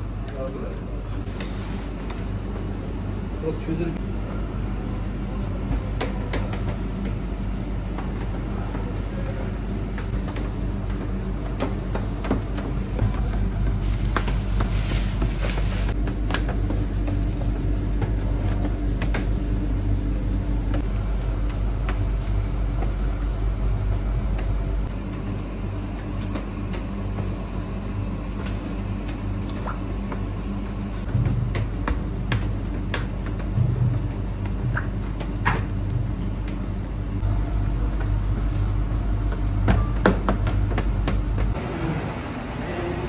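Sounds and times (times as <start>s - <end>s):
kitchen equipment humming: 0.0s - 43.0s.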